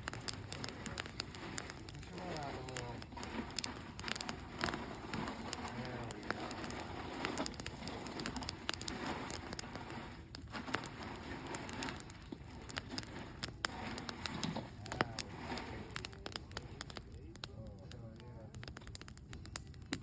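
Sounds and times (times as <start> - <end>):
campfire crackling and popping: 0.0 - 20.0
low fire hiss: 0.0 - 20.0.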